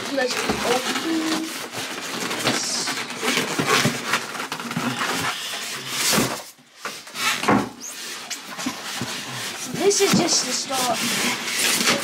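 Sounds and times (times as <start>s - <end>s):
cardboard box rustling and scraping: 0.0s - 12.0s.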